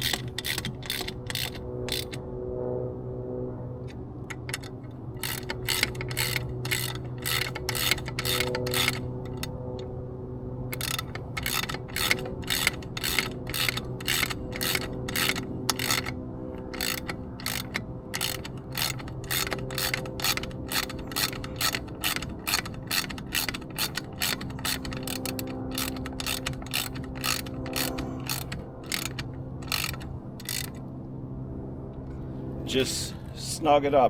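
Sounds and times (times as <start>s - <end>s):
ratchet wrench clicking: 0.0s - 2.2s, 4.3s - 9.5s, 10.7s - 30.8s.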